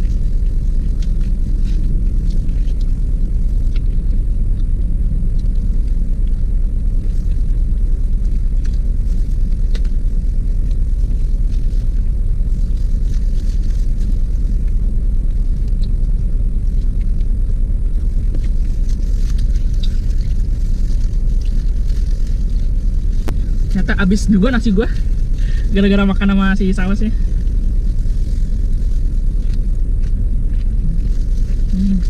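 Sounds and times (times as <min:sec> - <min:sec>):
gloved hand rustling food wrapper: 0:00.0 - 0:04.3, 0:05.0 - 0:32.0
car engine idling: 0:00.0 - 0:32.0.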